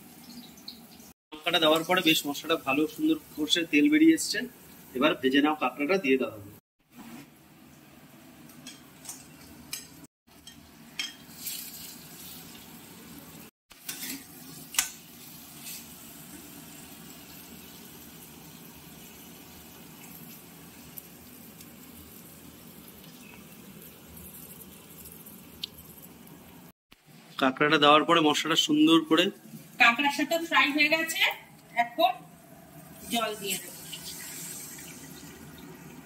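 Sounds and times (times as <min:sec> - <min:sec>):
frying sizzle: 0:00.0 - 0:36.0.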